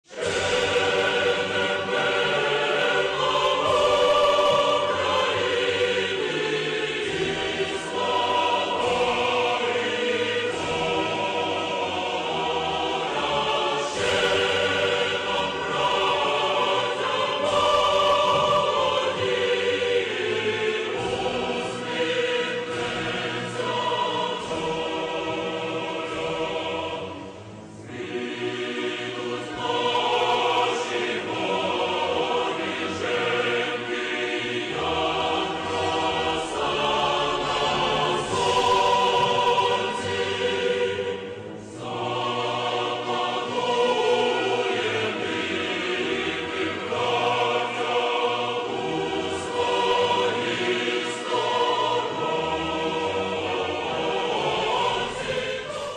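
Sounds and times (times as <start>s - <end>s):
choir singing sustained notes: 0.0s - 55.9s.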